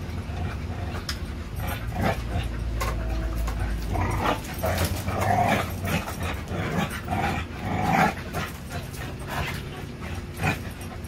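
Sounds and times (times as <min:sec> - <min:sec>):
dogs growling in play: 0:00.0 - 0:11.0.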